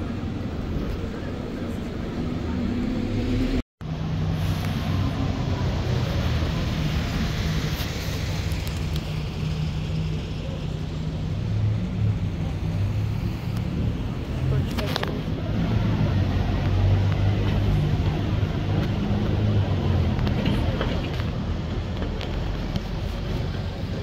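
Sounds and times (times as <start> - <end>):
bus and traffic engines humming: 0.0 - 24.0
road noise: 0.0 - 24.0.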